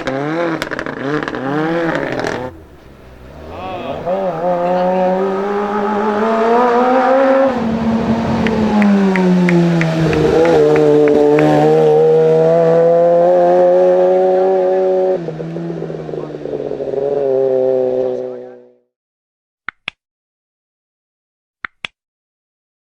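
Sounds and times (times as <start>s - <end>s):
race car engine at high revs: 0.0s - 18.8s.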